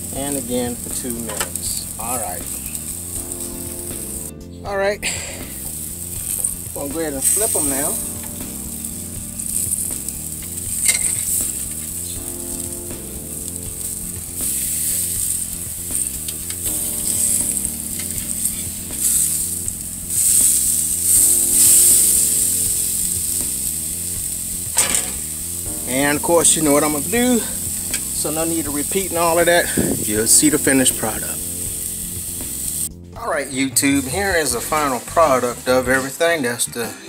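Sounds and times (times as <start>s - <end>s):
steaks sizzling on a grill: 0.0s - 4.3s, 5.1s - 32.9s, 33.8s - 36.4s.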